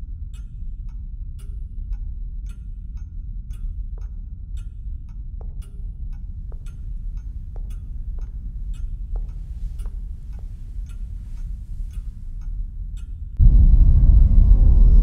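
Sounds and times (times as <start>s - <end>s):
low steady rumble: 0.0s - 15.0s
clock ticking: 0.3s - 13.4s.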